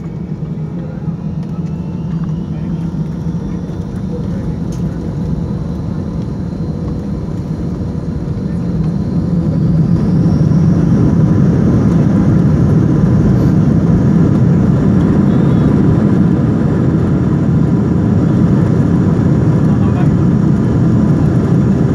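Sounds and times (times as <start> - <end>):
jet engines rumbling in cabin: 0.0 - 21.9.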